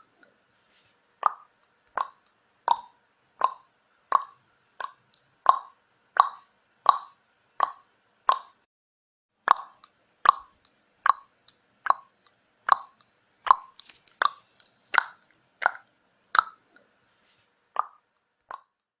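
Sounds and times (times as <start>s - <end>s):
tongue clicks: 1.2s - 8.6s, 9.5s - 16.9s, 17.8s - 18.9s.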